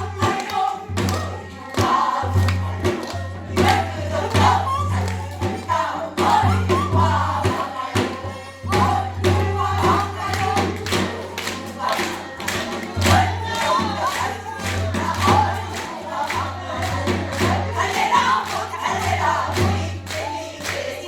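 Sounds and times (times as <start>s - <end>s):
folk singing: 0.0s - 21.0s
percussion strokes: 0.0s - 21.0s.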